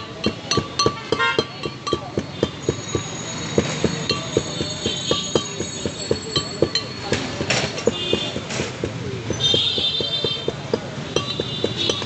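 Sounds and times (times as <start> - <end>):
rhythmic knocking: 0.0 - 12.0.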